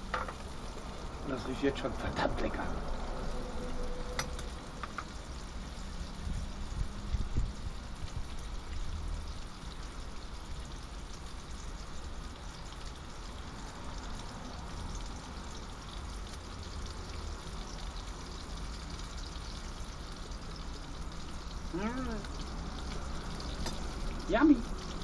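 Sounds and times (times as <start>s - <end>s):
sausage sizzling in a frying pan: 0.0s - 25.0s.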